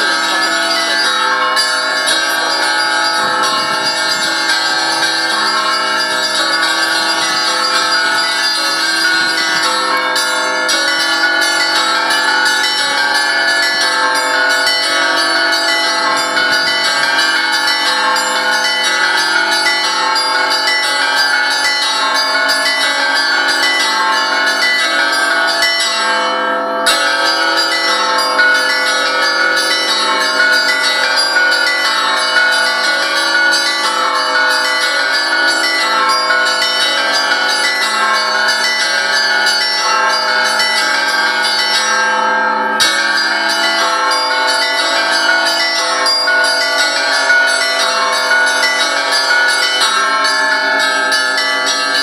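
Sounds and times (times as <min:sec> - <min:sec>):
church bells ringing: 0:00.0 - 0:52.0.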